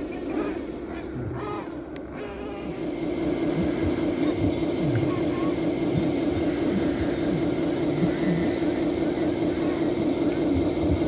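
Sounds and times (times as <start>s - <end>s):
toy truck motor droning: 0.0s - 11.0s.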